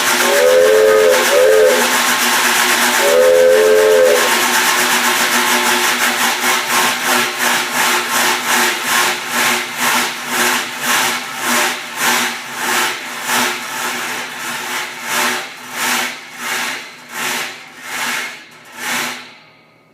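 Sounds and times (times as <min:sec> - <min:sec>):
train imitation chuffs: 0:00.0 - 0:19.4.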